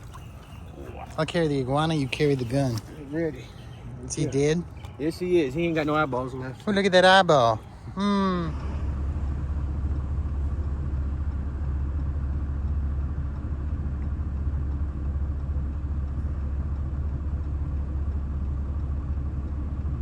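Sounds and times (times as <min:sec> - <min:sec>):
engine rumbling steadily: 0:00.0 - 0:20.0.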